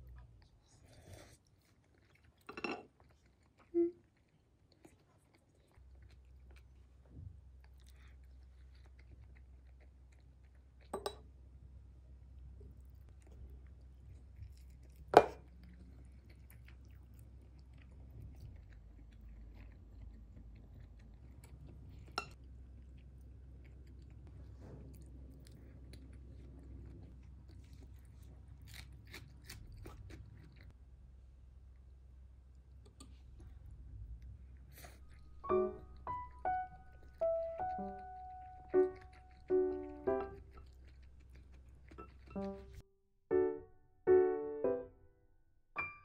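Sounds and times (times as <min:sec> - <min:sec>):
person chewing: 0:00.0 - 0:11.3, 0:12.6 - 0:30.8, 0:32.5 - 0:42.8
faint low hum: 0:00.0 - 0:46.0.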